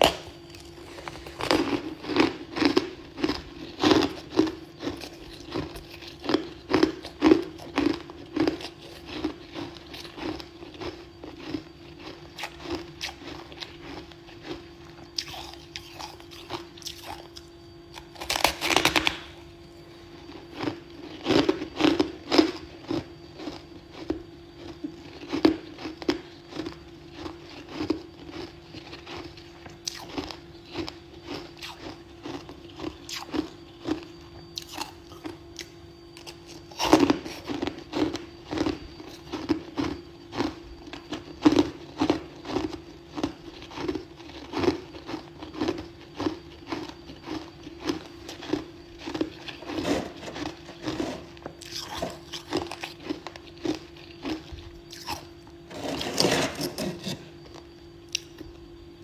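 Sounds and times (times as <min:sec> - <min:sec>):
frost being bitten and chewed: 0:00.0 - 0:19.4, 0:20.2 - 0:55.8, 0:56.8 - 0:58.5.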